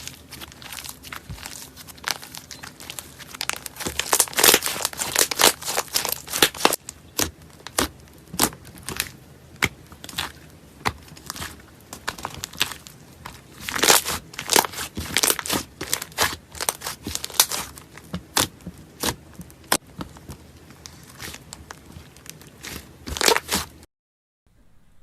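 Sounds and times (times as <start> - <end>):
slime crackling and popping: 0.0 - 23.8.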